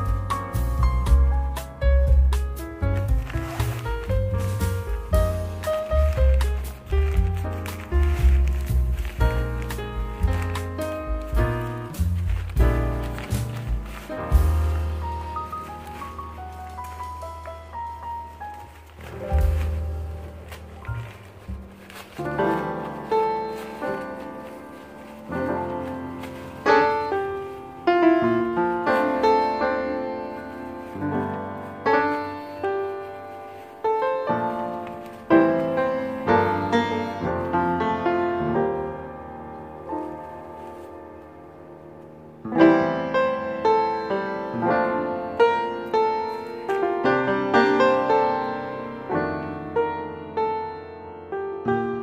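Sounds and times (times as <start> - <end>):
piano notes and chords: 0.0 - 52.0.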